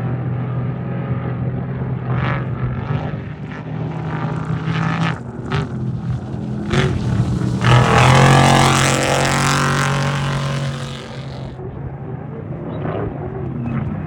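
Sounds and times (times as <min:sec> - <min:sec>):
race vehicle engine running hard: 0:00.0 - 0:14.0.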